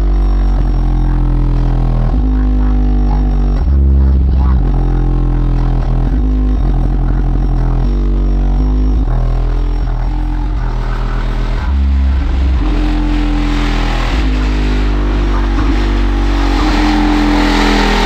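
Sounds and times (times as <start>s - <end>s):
bass-heavy music on car audio: 0.0s - 18.0s.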